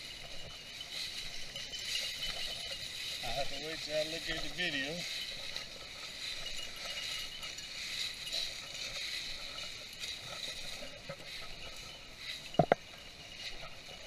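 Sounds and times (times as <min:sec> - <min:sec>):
rustling of dry brush and leaves: 0:00.0 - 0:14.0.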